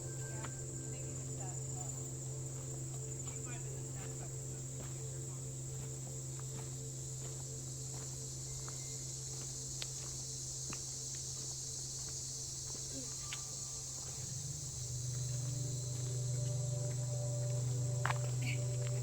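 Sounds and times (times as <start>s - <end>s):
insects chirping in woods: 0.0s - 19.0s
low steady hum: 0.0s - 19.0s.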